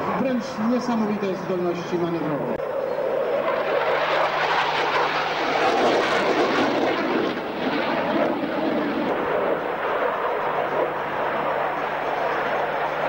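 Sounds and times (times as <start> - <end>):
fighter jet engine overhead: 0.0 - 13.0.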